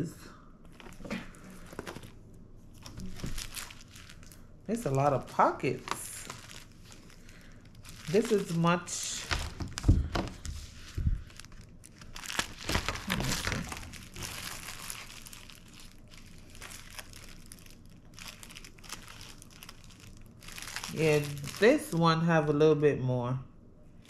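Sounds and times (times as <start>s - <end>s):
plastic binder pockets crinkling: 0.7s - 22.0s.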